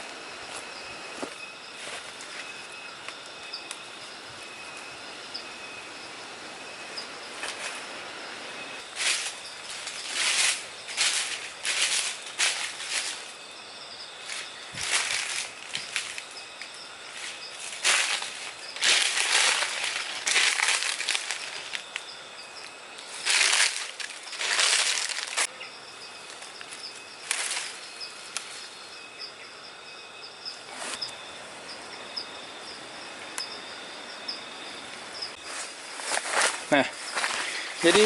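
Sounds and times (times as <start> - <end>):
insects chirping: 0.0 - 38.0
leaves and plants rustling: 0.0 - 38.0.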